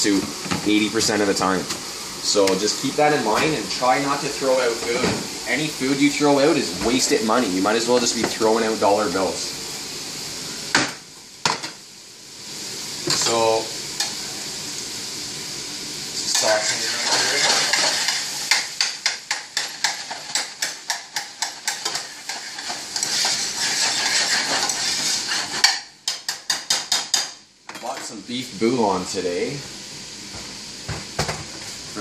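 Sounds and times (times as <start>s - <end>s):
food sizzling in a pot: 0.0s - 32.0s.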